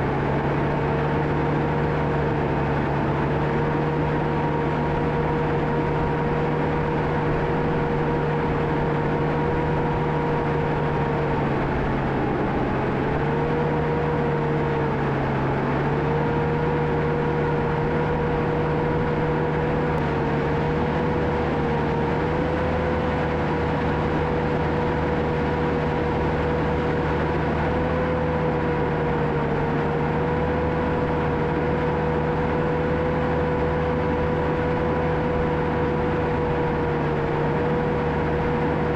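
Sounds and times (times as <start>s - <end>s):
bulldozer diesel engine running: 0.0s - 38.9s
steady high whine: 0.0s - 38.9s.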